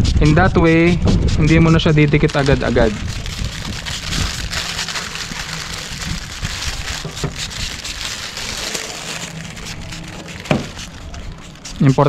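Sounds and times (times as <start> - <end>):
spray bottle spritzing: 1.4 - 12.0
plastic liner crackling: 1.8 - 12.0.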